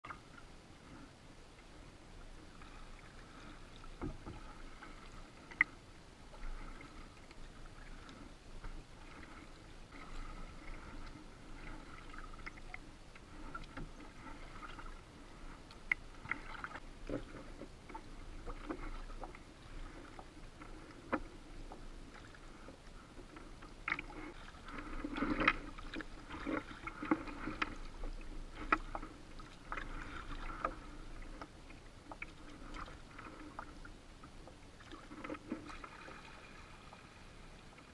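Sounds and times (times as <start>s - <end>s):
water splashing against kayak: 0.0s - 37.9s.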